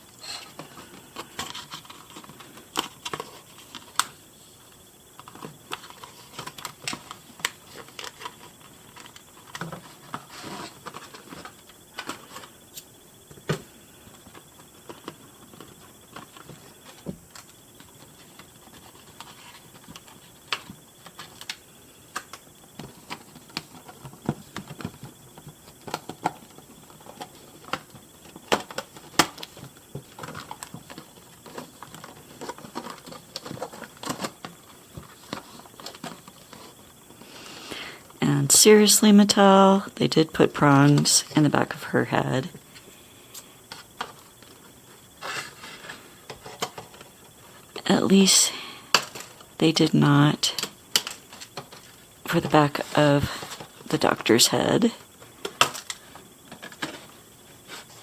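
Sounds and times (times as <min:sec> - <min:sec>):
rustling plastic and cardboard: 0:00.0 - 0:37.3, 0:43.7 - 0:47.9, 0:48.9 - 0:49.6, 0:50.6 - 0:54.0, 0:54.9 - 0:58.0.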